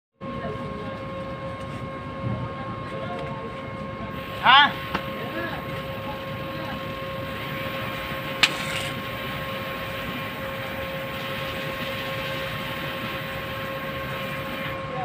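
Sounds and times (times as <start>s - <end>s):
machine drone: 0.2s - 15.0s.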